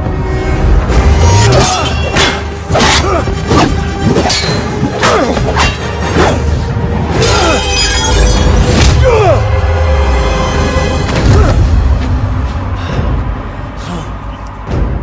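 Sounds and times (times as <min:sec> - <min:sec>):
dramatic background music: 0:00.0 - 0:15.0.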